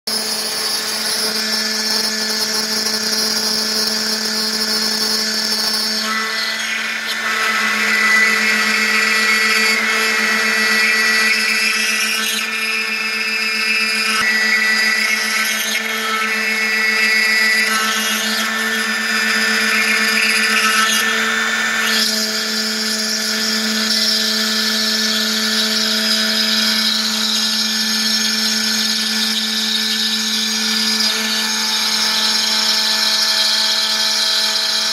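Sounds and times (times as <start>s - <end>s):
grinding cutting noise: 0.1s - 34.9s
router motor hum: 0.1s - 34.9s.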